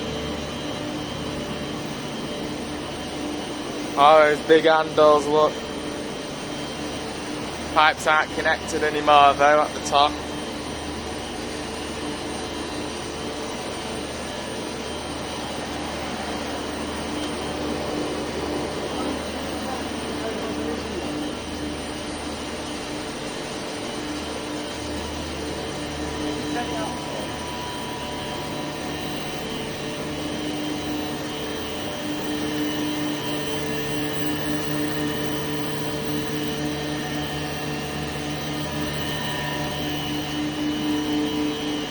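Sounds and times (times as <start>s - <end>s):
machinery roar: 0.0s - 41.9s.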